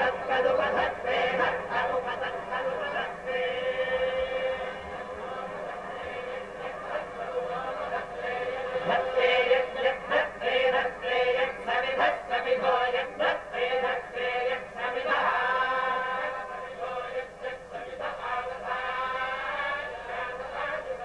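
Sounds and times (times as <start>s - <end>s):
men chanting hymns: 0.0s - 21.0s.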